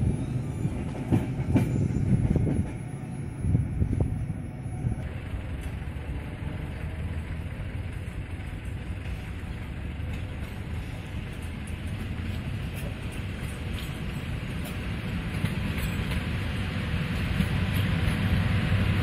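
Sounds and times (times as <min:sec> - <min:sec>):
departing train rumble: 0:00.0 - 0:19.0
distant freight locomotive rumble: 0:00.0 - 0:19.0.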